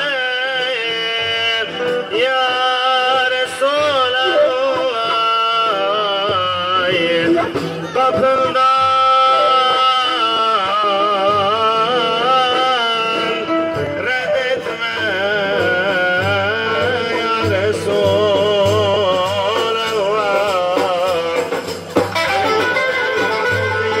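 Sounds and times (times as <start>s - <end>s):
devotional hymn singing: 0.0s - 22.0s
frame drums beating: 0.0s - 24.0s.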